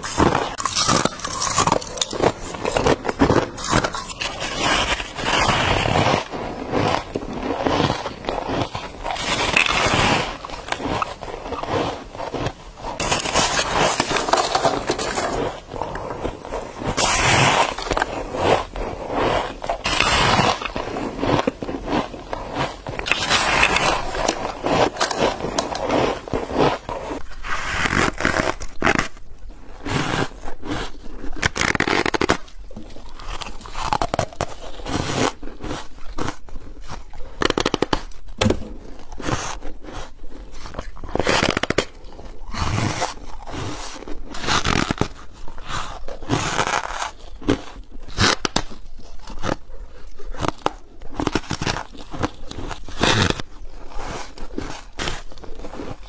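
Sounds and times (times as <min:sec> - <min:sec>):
crunching frost with teeth: 0:00.0 - 0:56.0.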